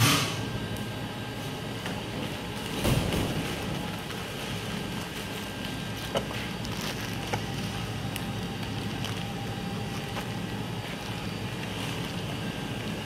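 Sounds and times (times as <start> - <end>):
machinery hum: 0.0 - 13.0.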